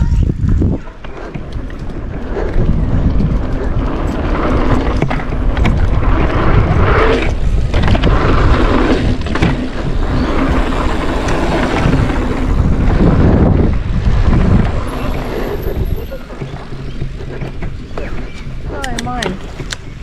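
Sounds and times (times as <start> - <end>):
bike rattling and knocking: 0.0 - 20.0
bike tyres rolling on dirt: 0.0 - 20.0
wind buffeting microphone: 0.0 - 20.0.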